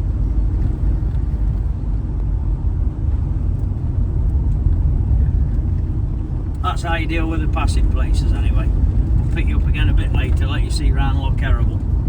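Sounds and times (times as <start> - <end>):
van engine and tyres rumbling: 0.0 - 12.0.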